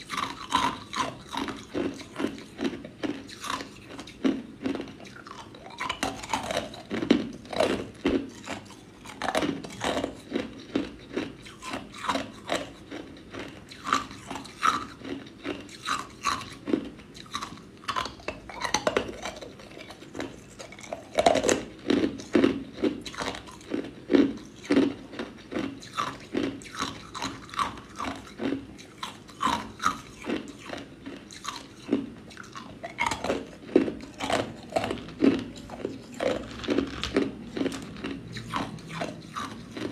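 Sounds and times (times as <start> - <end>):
ice cubes crunched between teeth: 0.0 - 39.9.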